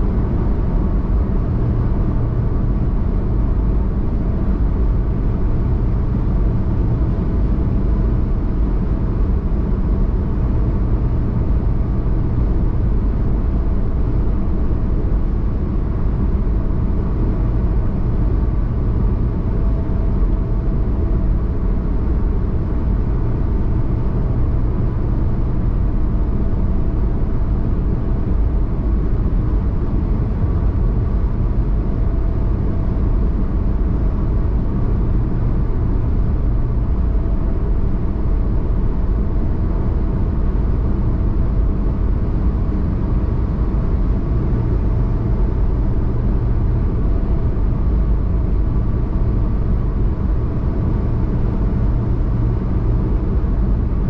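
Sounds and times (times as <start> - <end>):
car road and engine rumble: 0.0 - 54.0
faint hum: 0.0 - 54.0.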